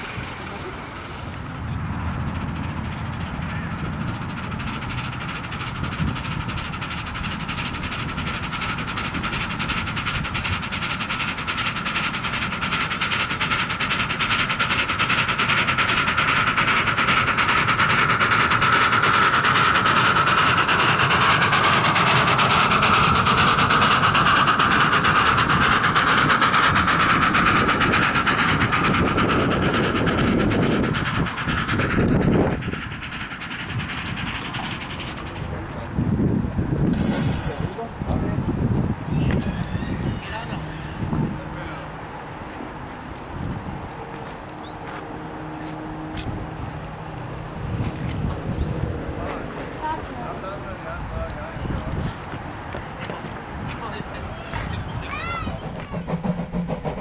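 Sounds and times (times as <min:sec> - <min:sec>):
steam locomotive exhaust chuffing: 0:00.0 - 0:57.0.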